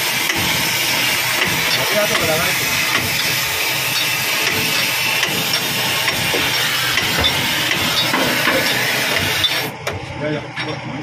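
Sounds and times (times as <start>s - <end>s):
loud steady hiss: 0.0s - 9.8s
low mechanical hum: 0.0s - 11.0s.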